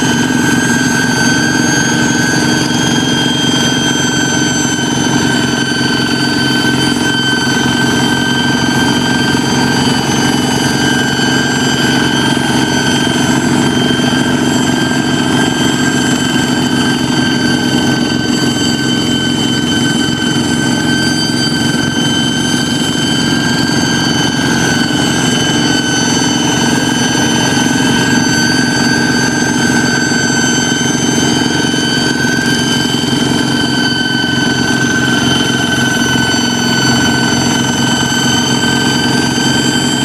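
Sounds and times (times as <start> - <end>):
diesel engine running: 0.0 - 40.0
high-pitched whine: 0.0 - 40.0.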